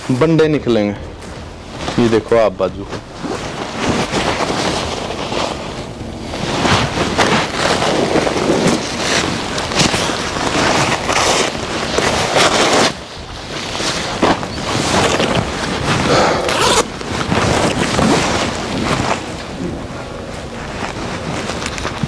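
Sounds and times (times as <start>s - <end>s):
clothes rustling and swishing: 0.0s - 22.0s.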